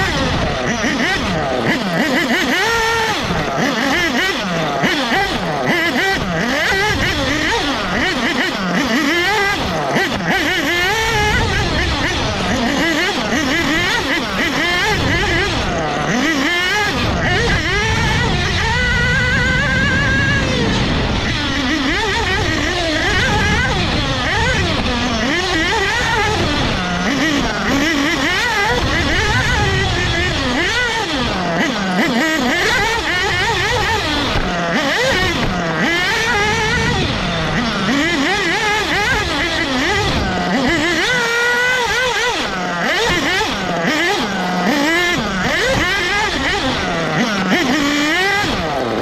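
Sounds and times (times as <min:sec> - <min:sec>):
model car engine revving: 0:00.0 - 0:49.0.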